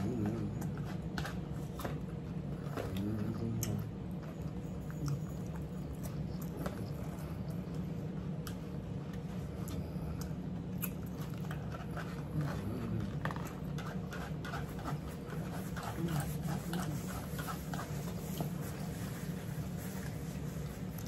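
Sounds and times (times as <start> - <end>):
chewing crunchy food: 0.0 - 21.0
steady low hum: 0.0 - 21.0.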